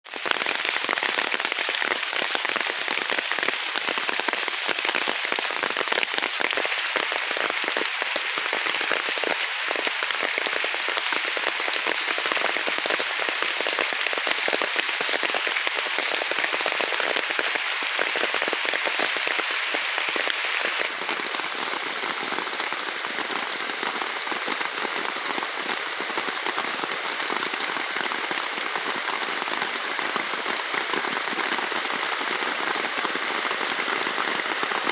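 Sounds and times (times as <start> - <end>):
heavy rain on foliage: 0.0 - 34.9.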